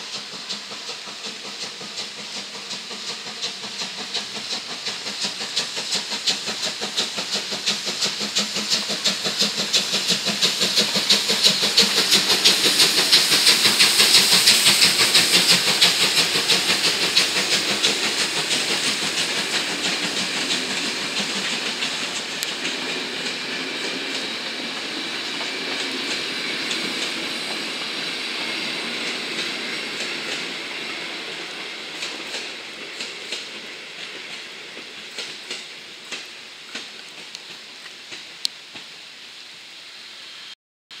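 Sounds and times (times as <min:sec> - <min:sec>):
railway carriages rolling past: 0:00.0 - 0:39.7
wheels clicking over rail joints: 0:00.1 - 0:39.0.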